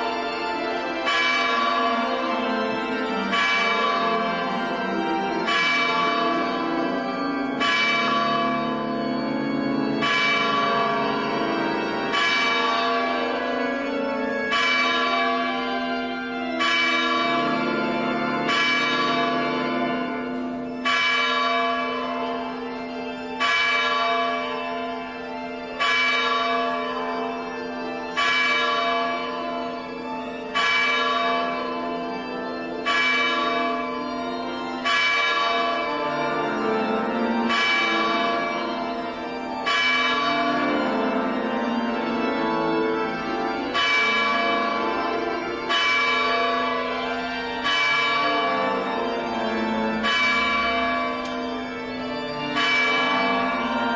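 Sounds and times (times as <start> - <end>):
church bell tolling: 0.0 - 53.9.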